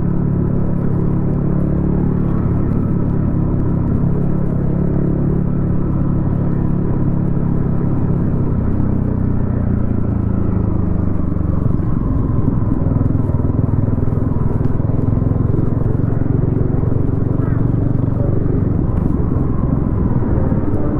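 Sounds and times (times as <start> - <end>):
motorcycle engine cruising: 0.0 - 20.9.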